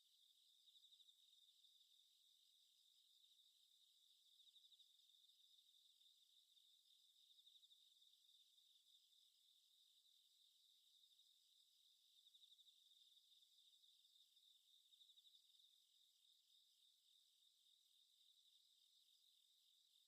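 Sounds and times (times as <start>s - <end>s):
faint crickets chirping: 0.0s - 20.0s.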